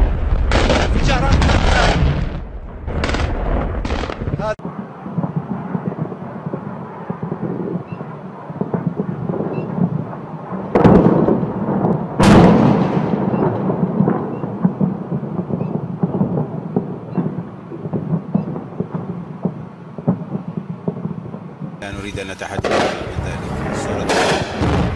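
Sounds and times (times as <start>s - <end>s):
loud explosion booms: 0.0s - 24.9s
low rumble with cracks: 0.0s - 24.9s.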